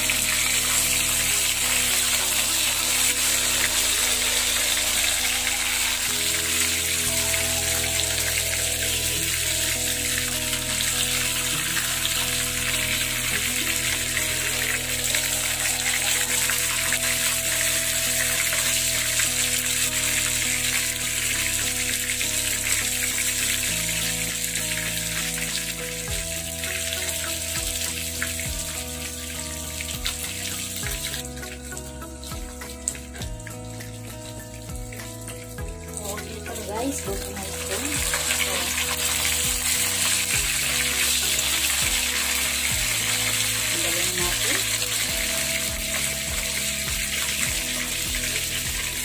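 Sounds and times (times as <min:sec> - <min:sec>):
fish sizzling in oil: 0:00.0 - 0:49.0
music of sustained tones: 0:00.0 - 0:49.0.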